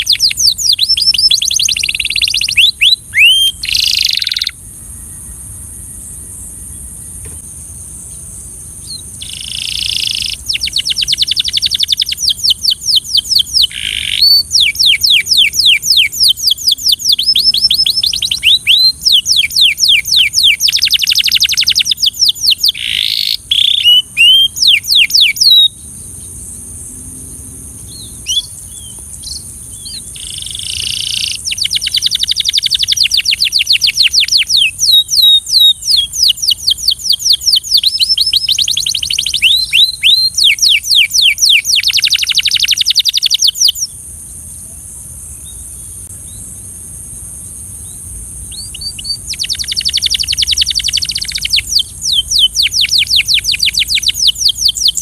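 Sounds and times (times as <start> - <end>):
canary singing trills: 0.0 - 5.3, 8.1 - 44.0, 47.8 - 55.0.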